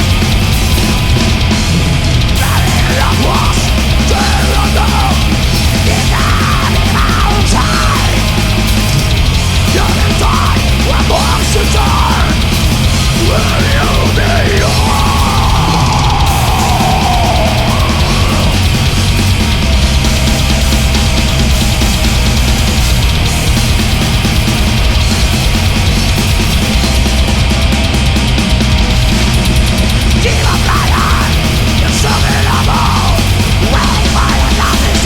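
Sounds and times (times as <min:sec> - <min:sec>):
harsh vocals: 0:00.0 - 0:35.0
metal band playing live: 0:00.0 - 0:35.0.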